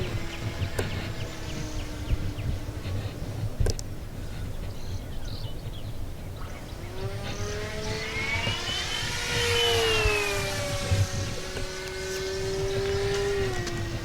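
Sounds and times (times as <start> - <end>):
model airplane motor whine: 0.0 - 14.0
wind rumble on microphone: 0.0 - 14.0.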